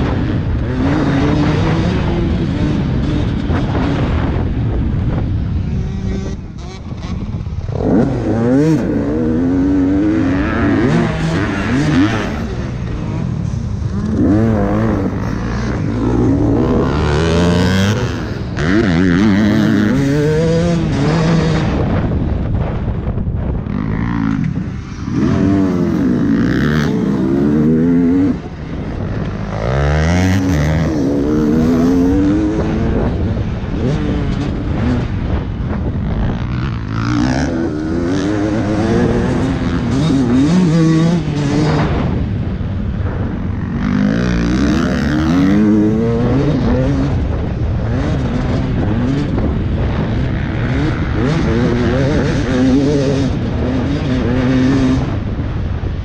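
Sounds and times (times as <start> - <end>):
dirt bike engine revving: 0.0 - 22.8, 23.5 - 55.7.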